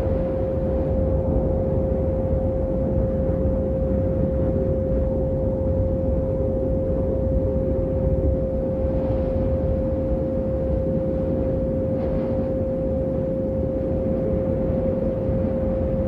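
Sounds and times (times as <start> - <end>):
low rumbling noise: 0.0 - 16.0.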